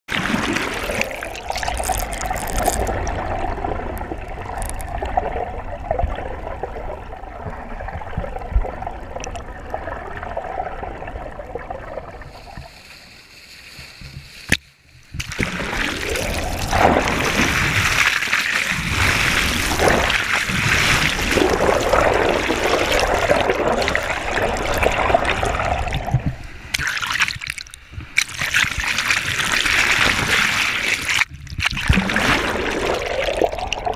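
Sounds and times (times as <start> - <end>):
water splashing and sloshing: 0.0 - 33.9
muffled underwater rushing: 0.1 - 14.4, 15.1 - 26.8, 27.9 - 33.9.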